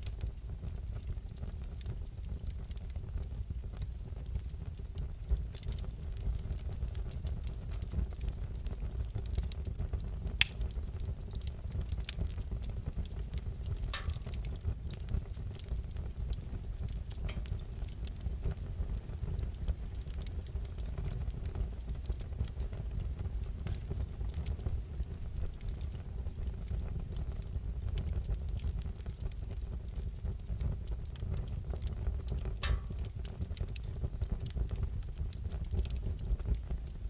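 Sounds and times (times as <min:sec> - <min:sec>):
low fire rumble: 0:00.0 - 0:37.0
wood fire crackling and popping: 0:00.0 - 0:37.0.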